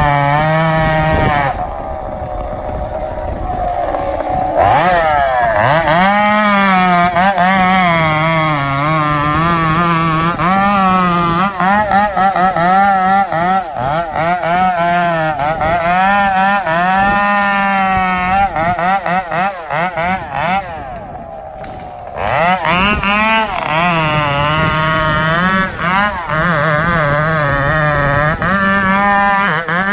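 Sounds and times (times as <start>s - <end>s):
chainsaw cutting at high revs: 0.0s - 29.9s.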